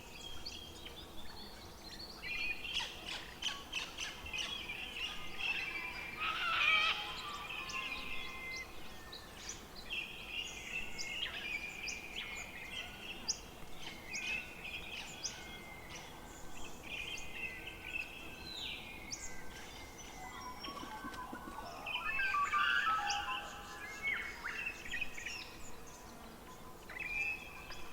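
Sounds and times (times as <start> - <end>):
louder low bird song: 0.0 - 27.9
songbirds singing: 0.0 - 27.9.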